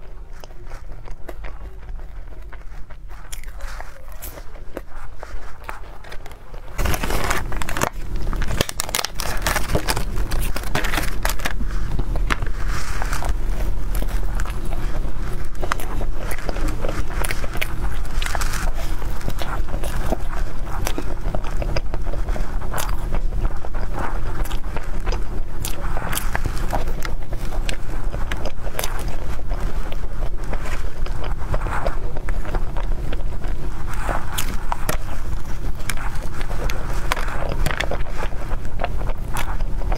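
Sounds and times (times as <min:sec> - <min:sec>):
chewing and mouth sounds: 0:00.0 - 0:39.9.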